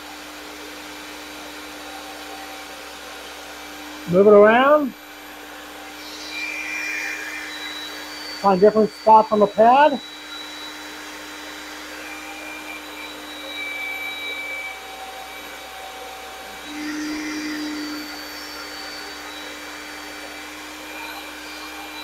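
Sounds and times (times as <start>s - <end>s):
electric drill running: 0.0s - 22.0s.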